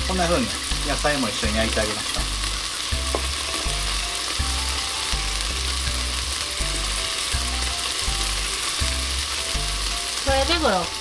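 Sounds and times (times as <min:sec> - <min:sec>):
background music with low beat: 0:00.0 - 0:10.4
meat sizzling in a frying pan: 0:00.0 - 0:11.0.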